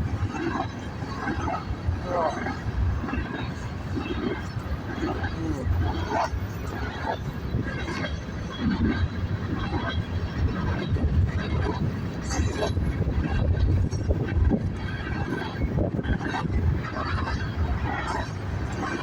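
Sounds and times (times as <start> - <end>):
freight train rumbling past: 0.0 - 19.0
wheels clicking on rails: 0.0 - 19.0.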